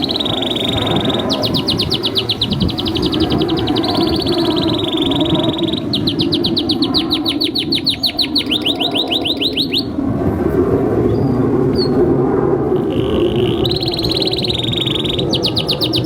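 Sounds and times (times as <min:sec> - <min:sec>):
canary singing a fast trill: 0:00.0 - 0:10.0, 0:12.8 - 0:16.0.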